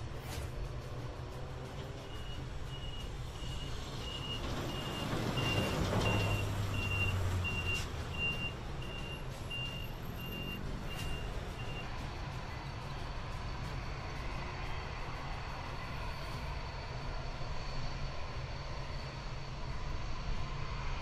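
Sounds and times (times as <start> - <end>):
low rumble of jets: 0.0 - 21.0.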